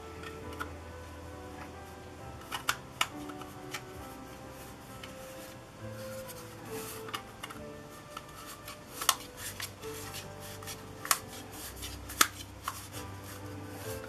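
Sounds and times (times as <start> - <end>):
plastic lens hoods rubbing: 2.4 - 14.0.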